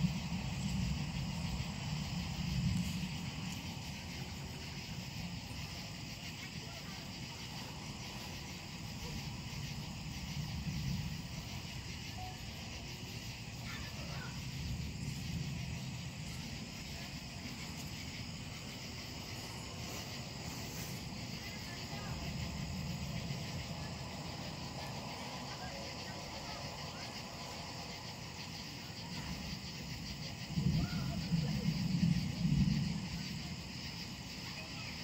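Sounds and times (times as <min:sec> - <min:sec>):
distant thunder rumbling: 0:00.0 - 0:35.0
night insects chirring: 0:00.0 - 0:35.0.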